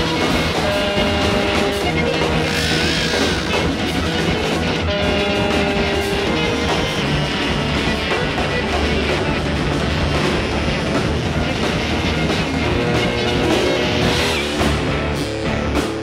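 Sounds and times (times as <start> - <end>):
rock music with guitar and drums: 0.0 - 16.0.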